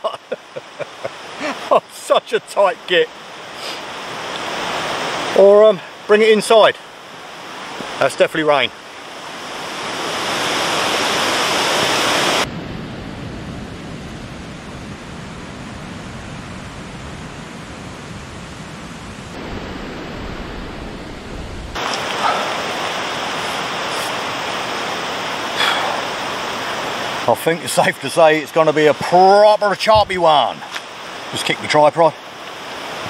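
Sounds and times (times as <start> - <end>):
rain: 0.0 - 33.0
wind: 0.0 - 33.0.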